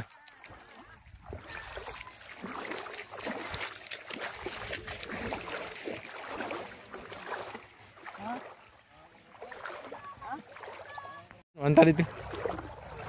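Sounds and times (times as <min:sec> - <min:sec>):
seawater splashing from wading: 0:00.0 - 0:13.0.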